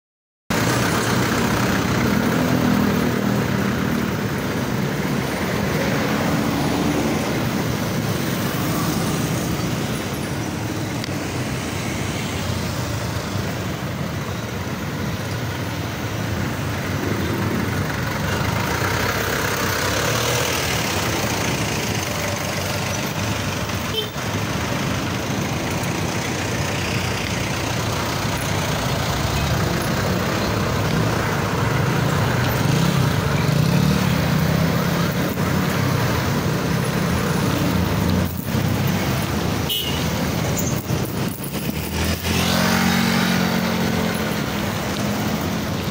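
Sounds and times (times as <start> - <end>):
steady road noise: 0.5 - 45.9
vehicle engines running: 0.5 - 45.9.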